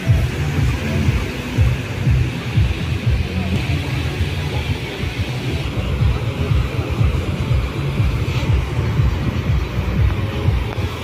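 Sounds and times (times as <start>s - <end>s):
surf washing: 0.0s - 11.0s.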